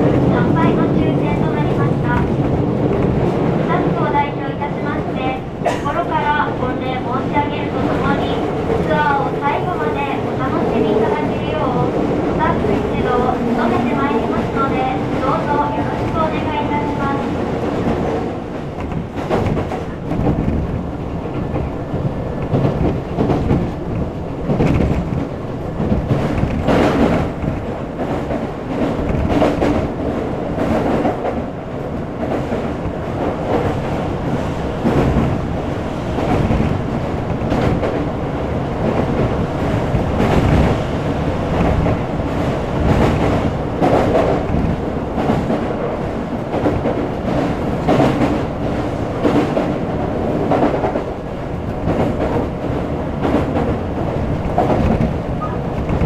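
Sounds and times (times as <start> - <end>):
train rumble from inside: 0.0 - 56.0
wheels clacking over rail joints: 5.5 - 56.0.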